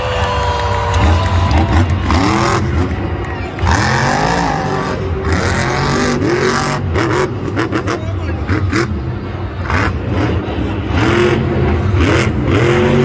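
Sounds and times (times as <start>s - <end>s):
truck engine revving: 0.3s - 13.0s.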